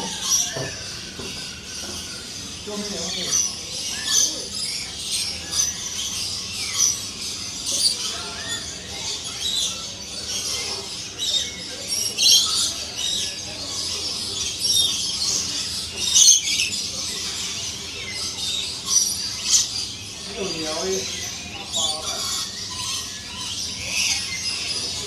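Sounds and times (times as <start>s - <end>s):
birds chirping and screeching: 0.0s - 25.0s.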